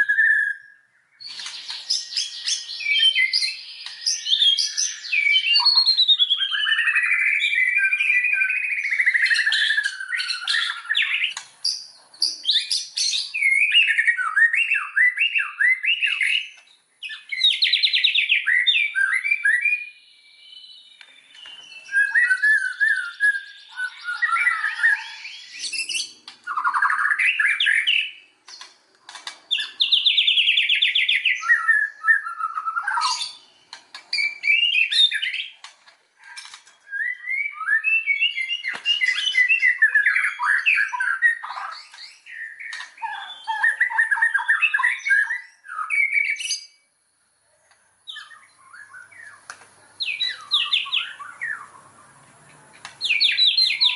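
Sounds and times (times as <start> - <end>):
bird singing whistled phrases: 0.0 - 28.2, 29.5 - 33.5, 34.1 - 35.6, 36.8 - 46.8, 48.1 - 49.4, 50.0 - 52.1, 53.0 - 53.9.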